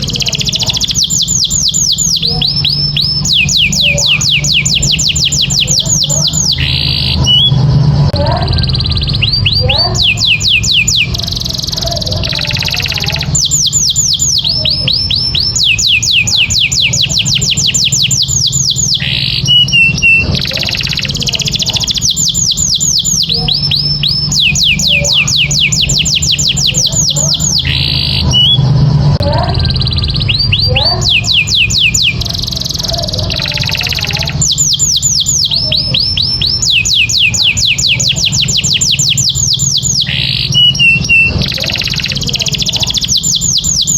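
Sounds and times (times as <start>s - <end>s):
canary singing fast trills: 0.0s - 43.9s
steady low hum: 0.0s - 43.9s.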